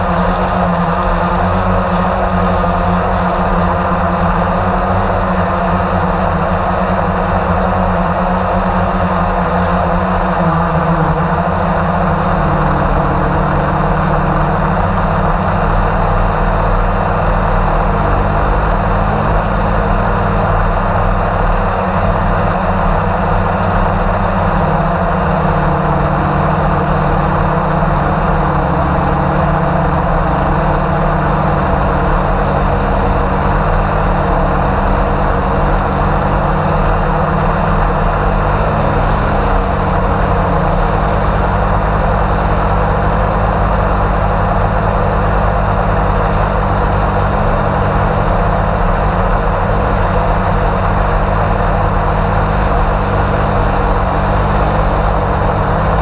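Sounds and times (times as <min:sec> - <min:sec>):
drone motors humming: 0:00.0 - 0:56.0.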